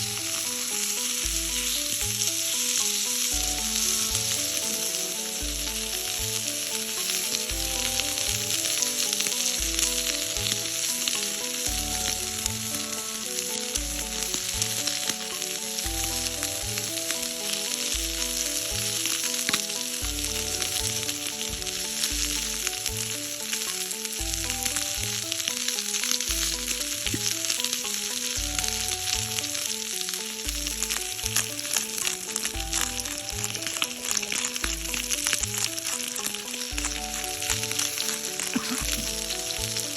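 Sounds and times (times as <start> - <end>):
food sizzling in a pan: 0.0 - 39.9
music with bass beat: 0.0 - 39.9.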